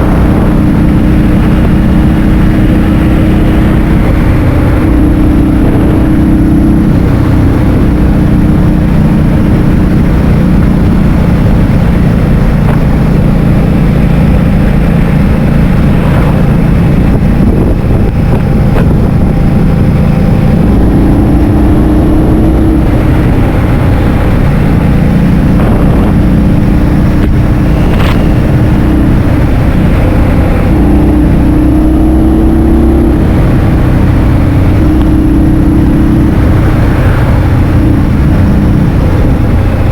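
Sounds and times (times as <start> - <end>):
scooter engine running: 0.0 - 39.9
wind rumble on microphone: 0.0 - 39.9.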